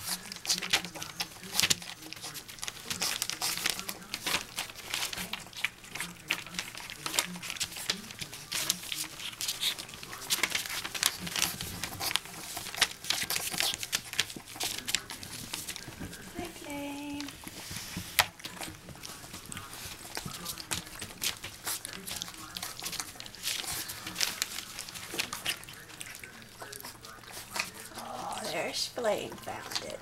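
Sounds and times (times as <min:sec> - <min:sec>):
newspaper crinkling: 0:00.0 - 0:30.0
puppies lapping and smacking food: 0:00.0 - 0:30.0.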